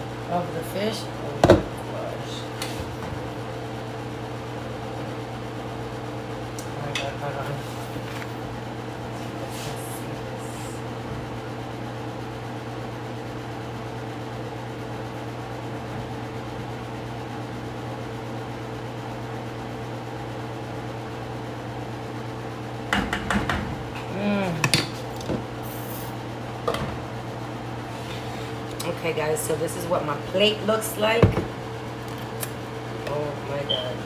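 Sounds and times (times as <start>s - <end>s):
kitchen appliance humming: 0.0s - 34.0s.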